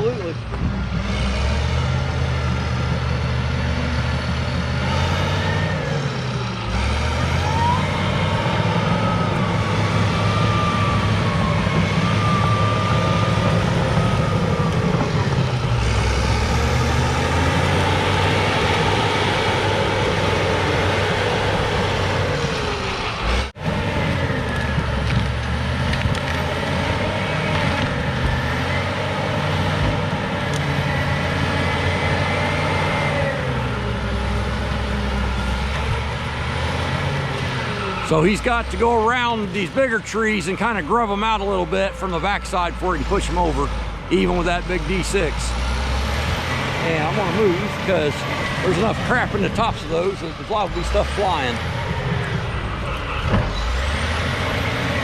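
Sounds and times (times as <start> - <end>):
bulldozer diesel engine working hard: 0.0 - 55.0.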